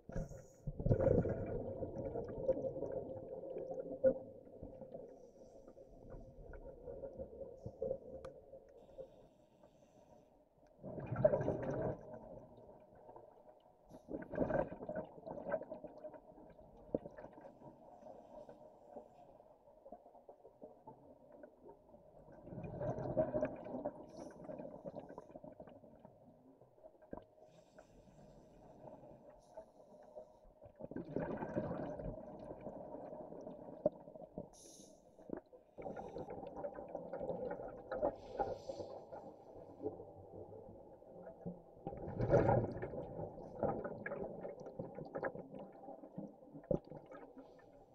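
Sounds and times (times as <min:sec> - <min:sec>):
underwater bubbling: 0:00.0 - 0:47.9.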